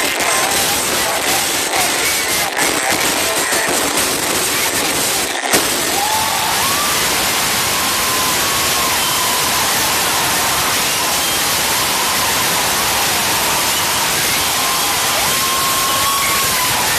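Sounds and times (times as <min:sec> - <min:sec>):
crowd clapping: 0:00.0 - 0:16.9
crowd shouting: 0:00.0 - 0:16.9.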